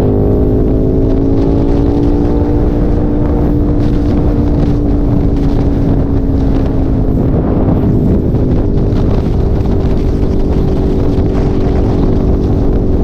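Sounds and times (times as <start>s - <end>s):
motorcycle engine running: 0.0s - 13.0s
wind and road rush: 0.0s - 13.0s.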